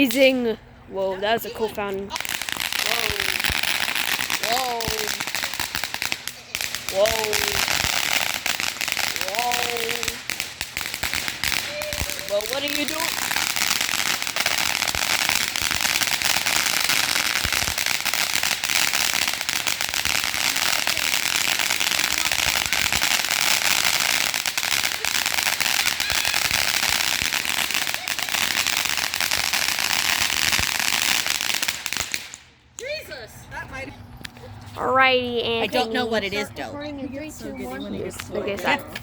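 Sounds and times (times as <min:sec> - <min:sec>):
fireworks crackling: 0:02.1 - 0:33.9.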